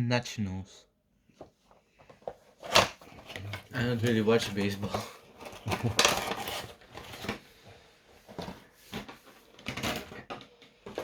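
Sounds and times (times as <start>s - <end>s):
cardboard and plastic packaging rustling: 1.4s - 11.0s.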